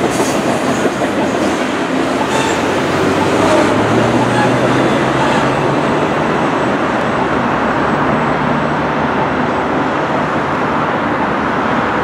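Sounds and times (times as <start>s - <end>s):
freight train rolling: 0.0s - 12.0s
road traffic: 0.0s - 12.0s.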